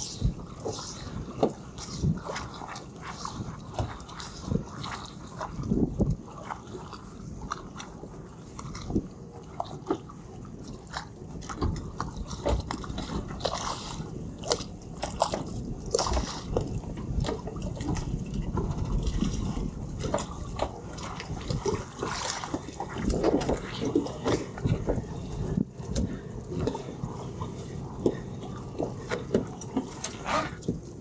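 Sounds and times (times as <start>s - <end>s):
water slapping against boat hulls: 0.0s - 31.0s.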